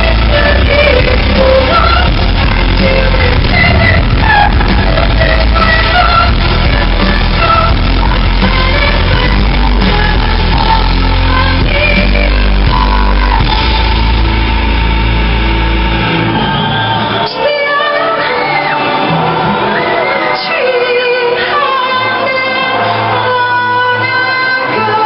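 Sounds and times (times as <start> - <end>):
woman singing lead vocal: 0.0 - 14.4, 17.2 - 25.0
metal band playing: 0.0 - 25.0.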